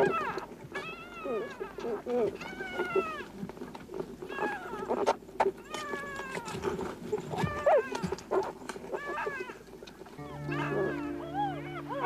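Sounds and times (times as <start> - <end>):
pups whining and squealing: 0.0 - 3.3, 4.3 - 12.0.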